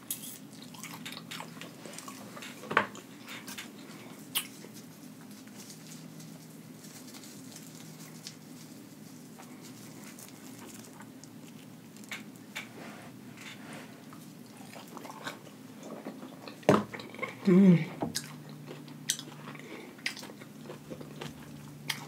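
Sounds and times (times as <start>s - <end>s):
chewing with crunches: 0.0s - 12.7s, 14.0s - 22.0s.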